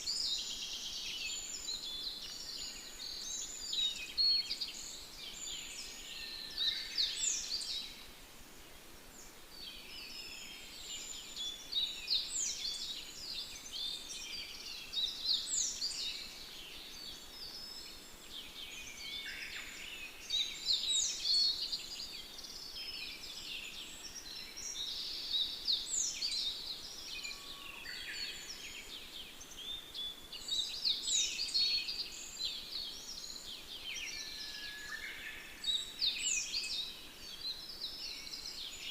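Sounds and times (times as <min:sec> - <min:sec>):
faint steady hiss: 0:00.0 - 0:38.9
songbirds chirping and trilling: 0:00.0 - 0:38.9.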